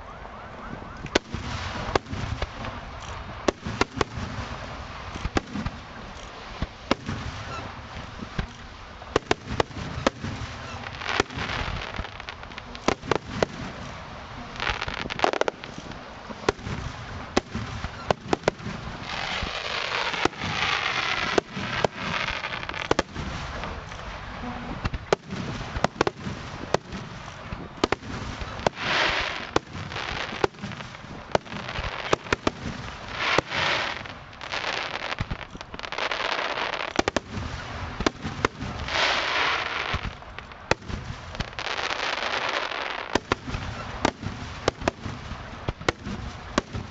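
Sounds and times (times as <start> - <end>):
firework bangs: 0.7 - 46.9
firework crackling: 0.7 - 46.9.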